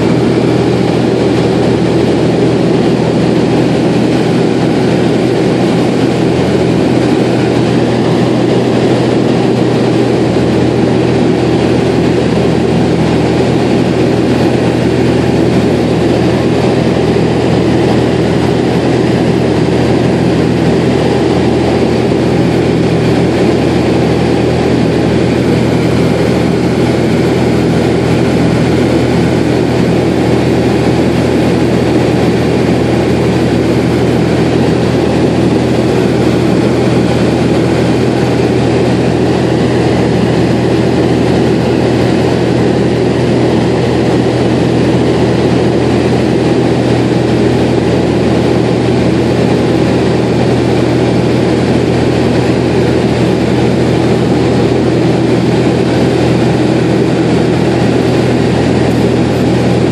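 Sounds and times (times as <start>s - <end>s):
propeller engine droning: 0.0s - 59.9s.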